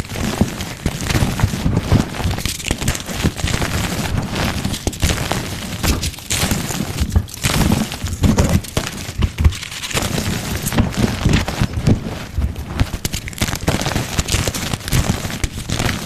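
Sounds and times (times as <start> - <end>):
chalk being crushed: 0.0 - 16.0.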